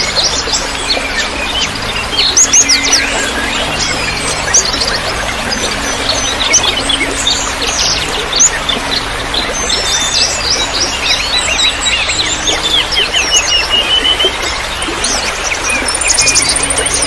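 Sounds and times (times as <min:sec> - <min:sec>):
songbirds chirping and twittering: 0:00.0 - 0:17.0
trickle of running water: 0:00.0 - 0:17.0.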